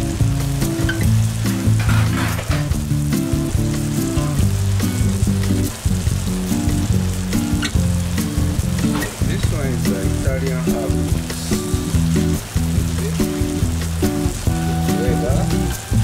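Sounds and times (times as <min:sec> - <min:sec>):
background music with low notes: 0:00.0 - 0:16.0
sauce sizzling in a frying pan: 0:00.0 - 0:16.0.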